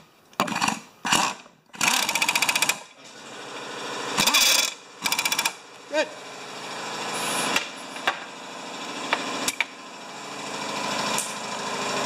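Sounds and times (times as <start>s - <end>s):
steady mechanical running noise: 0.3s - 12.0s.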